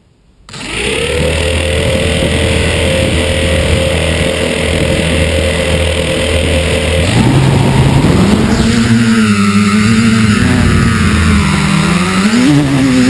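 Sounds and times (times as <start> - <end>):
drone motors and propellers spinning: 0.5 - 13.0.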